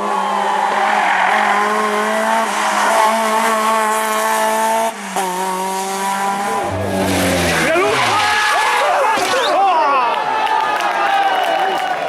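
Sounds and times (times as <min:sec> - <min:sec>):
rally car engine revving high: 0:00.0 - 0:10.1.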